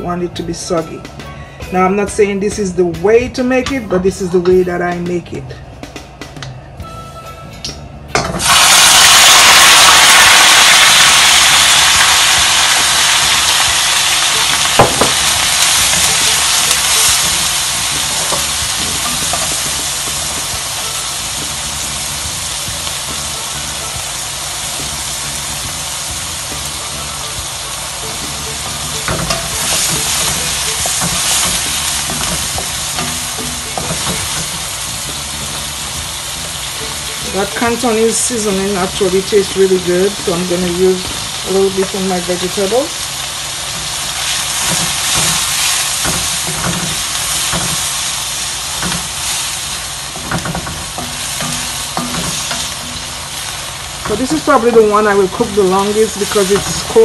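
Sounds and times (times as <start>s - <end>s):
vegetables sizzling in hot oil: 8.2s - 57.0s.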